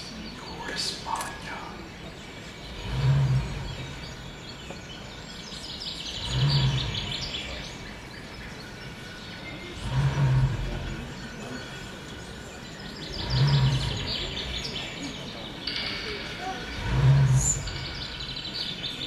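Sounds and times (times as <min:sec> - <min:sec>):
recorded birdsong: 0:00.0 - 0:19.0
deep rising tone: 0:02.3 - 0:19.0.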